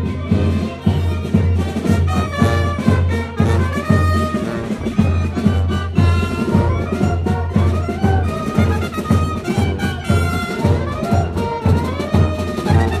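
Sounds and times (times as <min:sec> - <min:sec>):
brass band music: 0:00.0 - 0:13.0.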